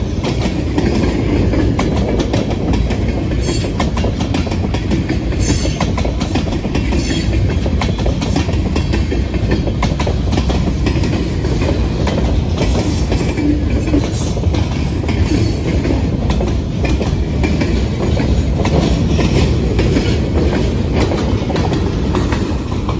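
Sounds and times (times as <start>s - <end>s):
freight train rolling past: 0.0s - 22.9s.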